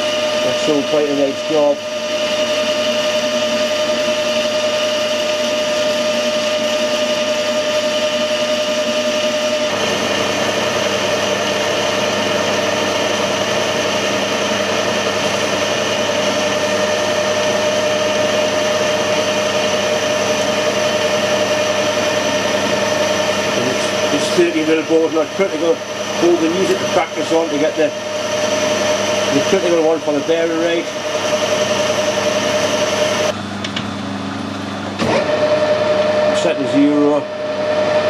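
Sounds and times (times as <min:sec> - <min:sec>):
metal lathe whining: 0:00.0 - 0:38.0.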